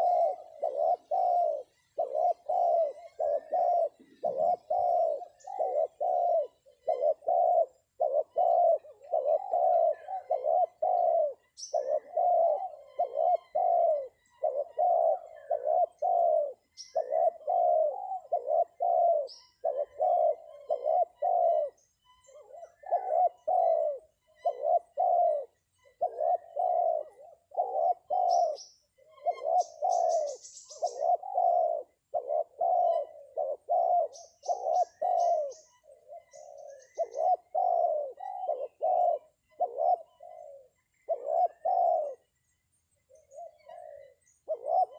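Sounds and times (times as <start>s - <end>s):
dove cooing: 0.0s - 44.9s
small birds chirping: 0.0s - 44.9s.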